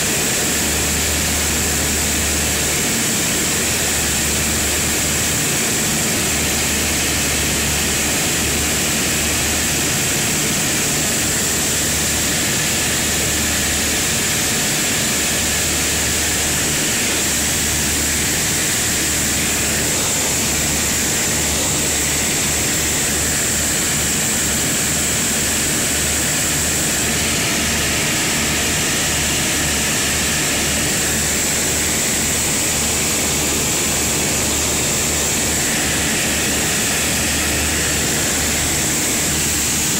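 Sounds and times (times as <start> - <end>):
aircraft engines droning: 0.0 - 39.9
high engine whine: 0.0 - 39.9.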